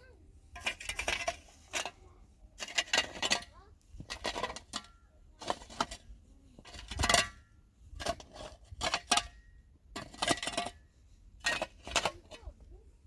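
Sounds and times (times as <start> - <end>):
metal tool digging stony soil: 0.6 - 10.8, 11.4 - 12.6.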